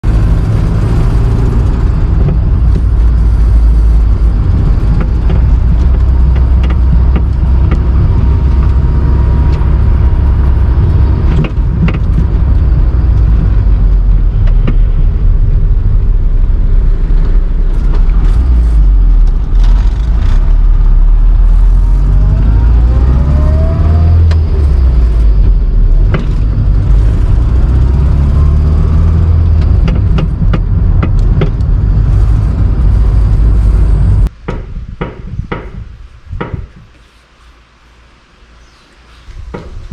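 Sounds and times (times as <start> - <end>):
car engine running: 0.0 - 34.3.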